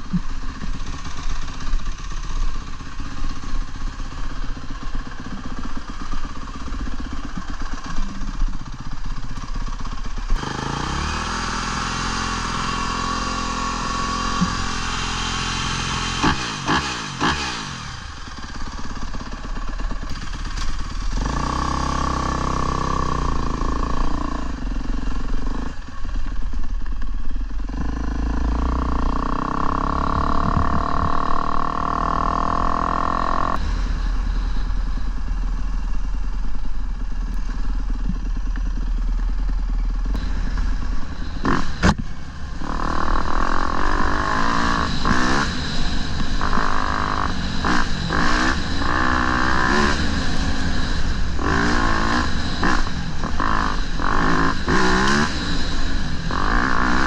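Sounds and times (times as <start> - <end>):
dirt bike engine revving: 0.0 - 25.9, 27.6 - 57.0.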